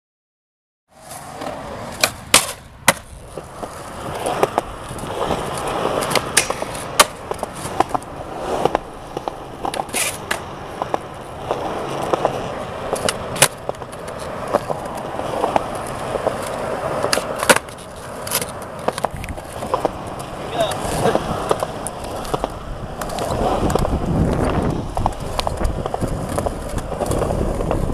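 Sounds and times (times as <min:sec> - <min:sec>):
skateboard wheels rolling on concrete: 0:00.9 - 0:27.9
skateboard popping and landing clacks: 0:01.0 - 0:27.9.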